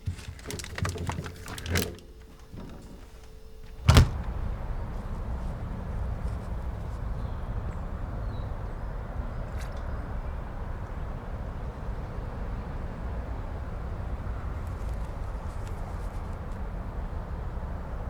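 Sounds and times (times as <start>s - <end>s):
vehicle engine rumbling: 2.3s - 18.0s.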